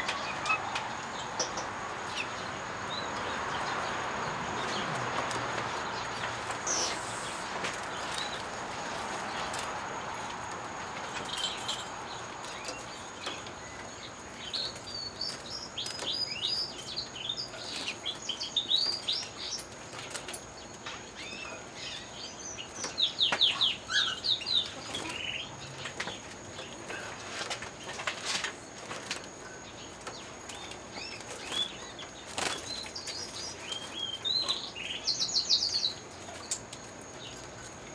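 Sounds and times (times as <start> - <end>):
canaries singing: 0.0 - 37.9.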